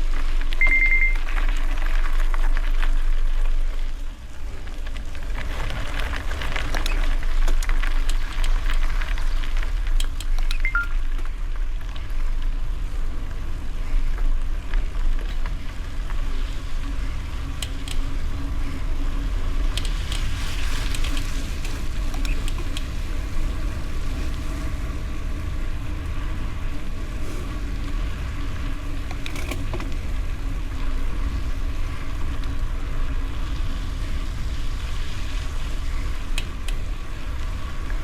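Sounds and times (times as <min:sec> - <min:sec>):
bicycle tyres rolling on gravel: 0:00.0 - 0:38.0
bike clicks and rattles: 0:00.0 - 0:38.0
wind rumbling on microphone: 0:00.0 - 0:38.0.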